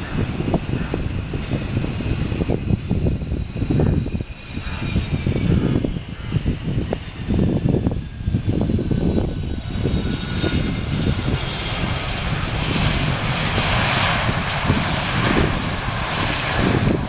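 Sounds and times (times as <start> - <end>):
jet engine low rumble: 0.0 - 17.0
jet engine whine: 0.0 - 17.0.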